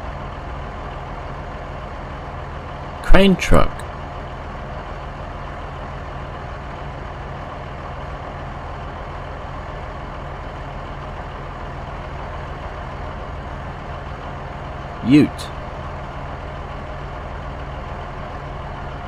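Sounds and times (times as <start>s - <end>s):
heavy truck engine running: 0.0s - 19.0s.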